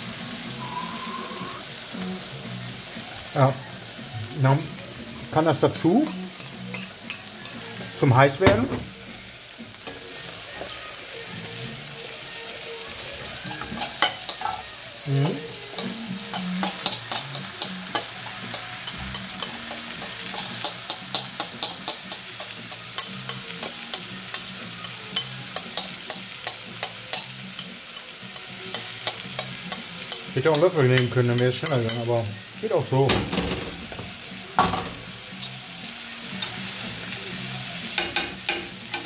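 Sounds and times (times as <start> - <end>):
vegetables sizzling in a frying pan: 0.0 - 39.0.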